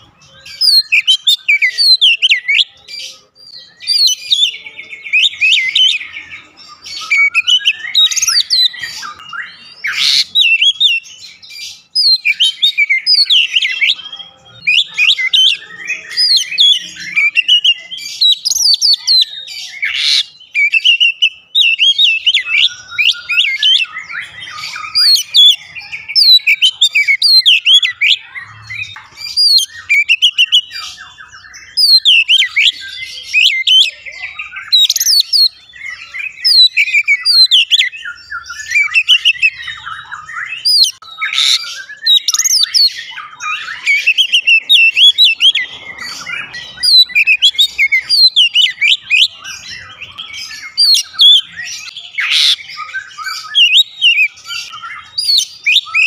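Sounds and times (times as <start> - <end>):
bird singing whistled phrases: 0.0 - 56.0.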